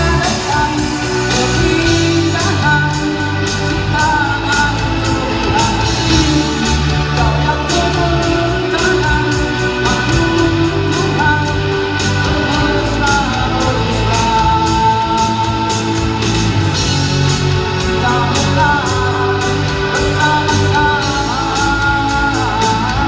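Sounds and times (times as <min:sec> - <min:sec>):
bass guitar: 0:00.0 - 0:23.0
drums: 0:00.0 - 0:23.0
electric guitar: 0:00.0 - 0:23.0
person singing: 0:00.0 - 0:23.0.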